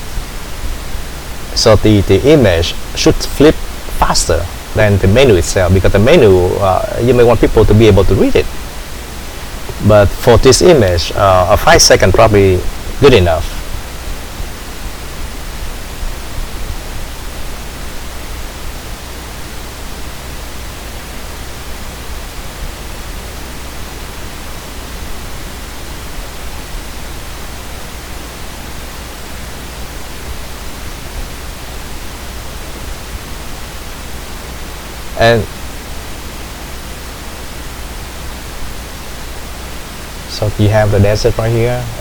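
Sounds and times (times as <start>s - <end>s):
low hum: 0.0s - 42.0s
microphone hiss: 0.0s - 42.0s.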